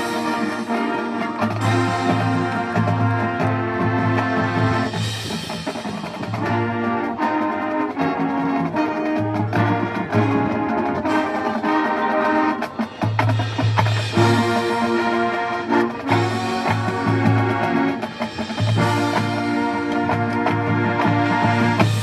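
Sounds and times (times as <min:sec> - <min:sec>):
brass chords: 0:00.0 - 0:22.0
drums: 0:00.0 - 0:22.0.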